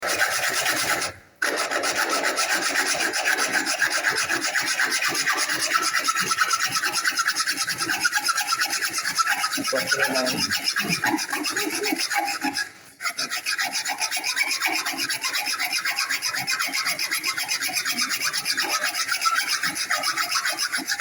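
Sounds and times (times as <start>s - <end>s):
hand saw cutting wood: 0.0s - 21.0s.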